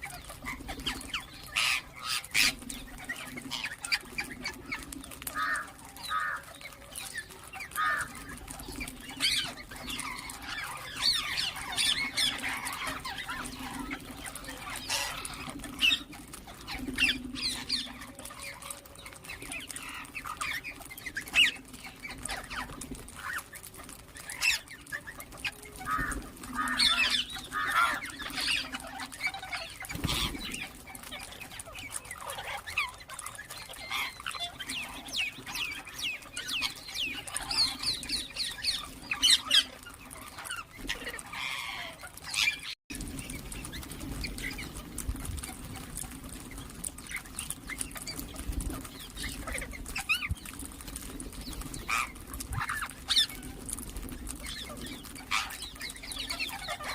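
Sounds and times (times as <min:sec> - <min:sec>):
parrots squawking and chirping: 0:00.0 - 0:56.9.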